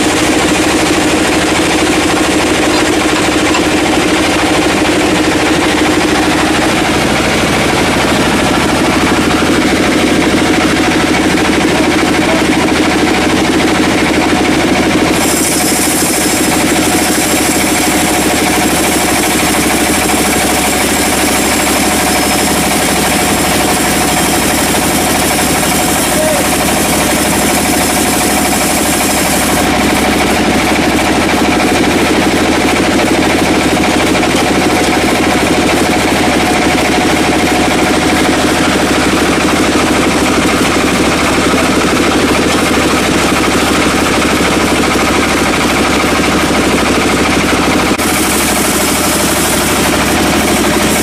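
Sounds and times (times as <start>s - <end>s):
band sawmill sawing log: 0.0s - 51.0s.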